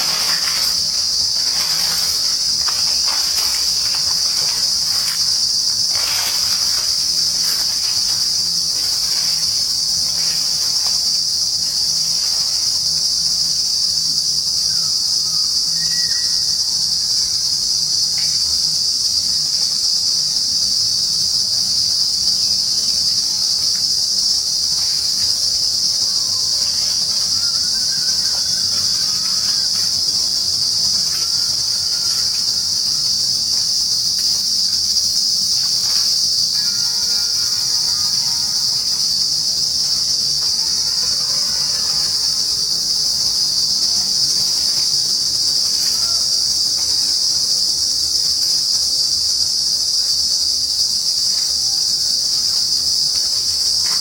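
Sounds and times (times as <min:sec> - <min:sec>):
insects droning shrilly: 0:00.0 - 0:54.0.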